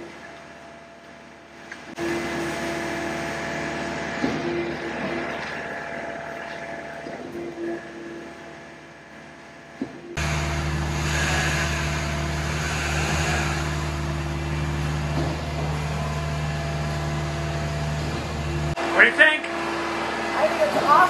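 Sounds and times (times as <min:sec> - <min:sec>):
loud engine-like drone: 0:02.0 - 0:21.0.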